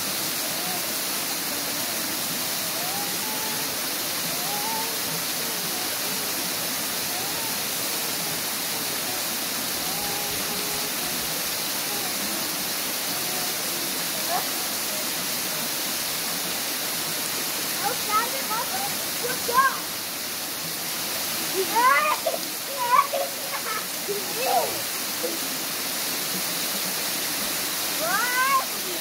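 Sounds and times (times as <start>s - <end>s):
running water hiss: 0.0s - 29.0s.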